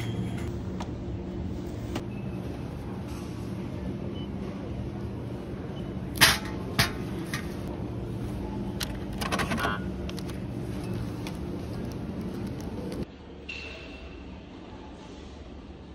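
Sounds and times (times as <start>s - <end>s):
steady background hum: 0.0s - 15.9s.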